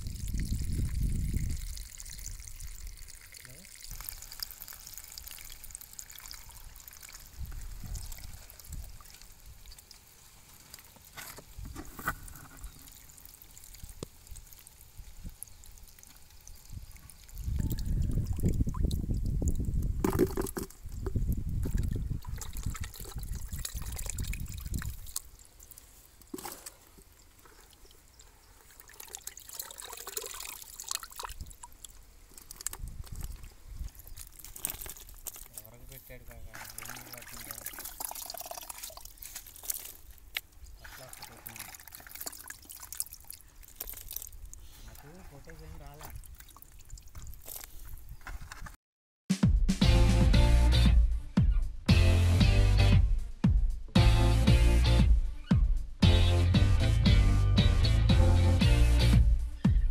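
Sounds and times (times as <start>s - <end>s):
water trickling into a bucket: 0.0s - 48.2s.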